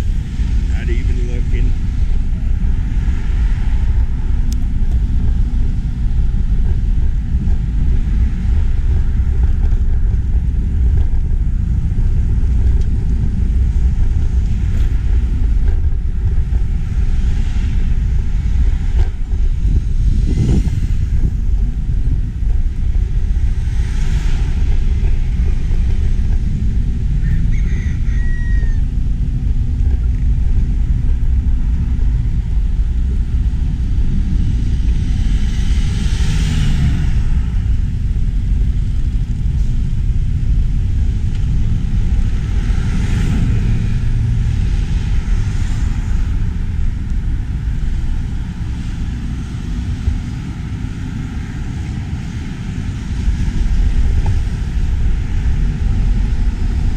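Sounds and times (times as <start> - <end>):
wind rumbling on microphone: 0.0 - 56.9.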